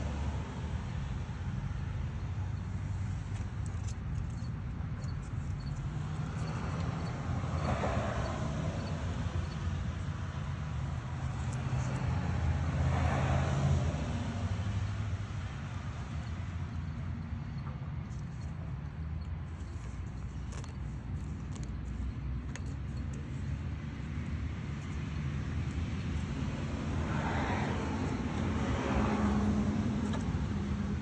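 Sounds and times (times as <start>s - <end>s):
road traffic rumble: 0.0s - 31.0s
vehicles passing: 0.0s - 31.0s.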